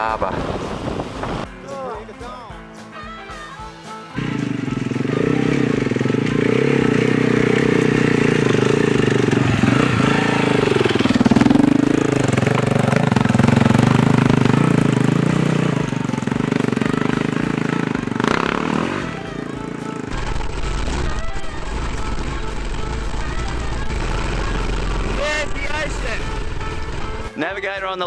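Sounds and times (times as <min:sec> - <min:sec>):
motorcycle engine running: 0:00.0 - 0:01.6, 0:04.1 - 0:27.4.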